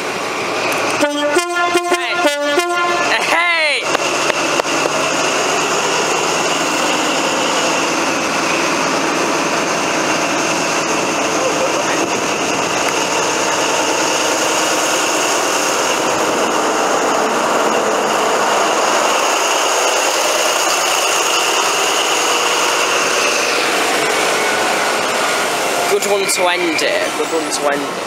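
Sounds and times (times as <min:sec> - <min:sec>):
diesel engine roar: 0:00.0 - 0:28.0.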